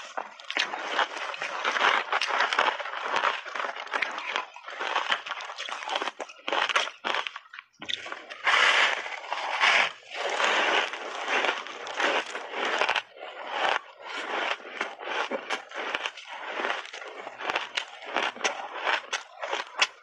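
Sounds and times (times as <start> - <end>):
chewing crunchy ice: 0.0 - 20.0.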